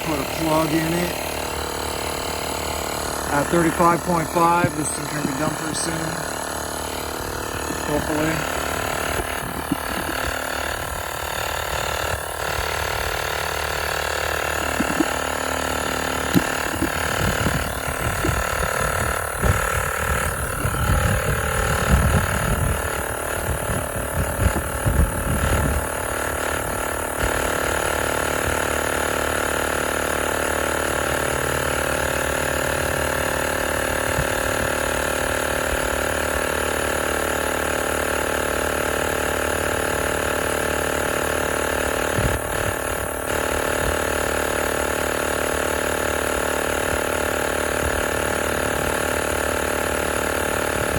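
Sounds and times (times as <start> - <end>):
air compressor running: 0.0 - 50.9.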